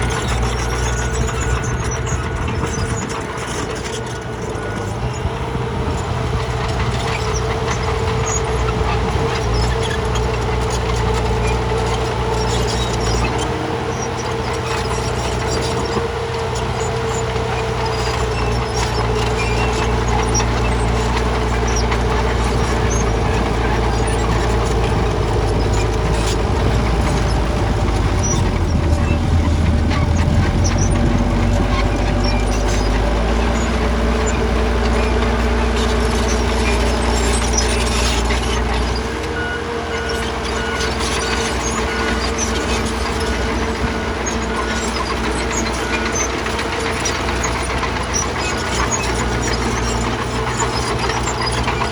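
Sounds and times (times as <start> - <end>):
heavy machine engine running: 0.0 - 51.9.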